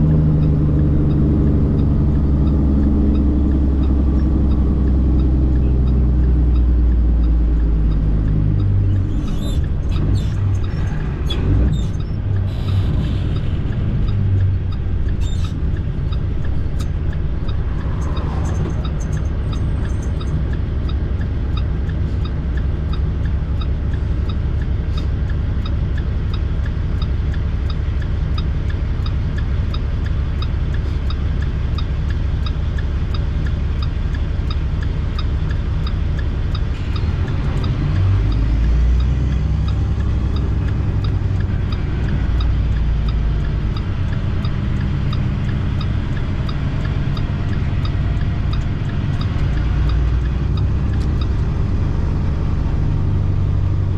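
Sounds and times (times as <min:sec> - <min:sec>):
faint ticking: 0:00.0 - 0:11.0, 0:11.8 - 0:53.9
diesel truck engine running: 0:00.0 - 0:53.9.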